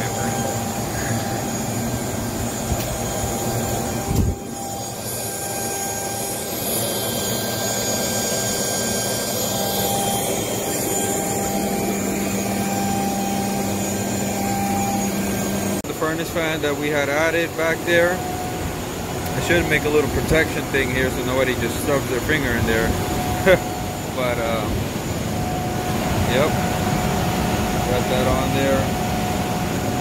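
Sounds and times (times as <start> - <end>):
heater air blower rushing: 0.0 - 30.0.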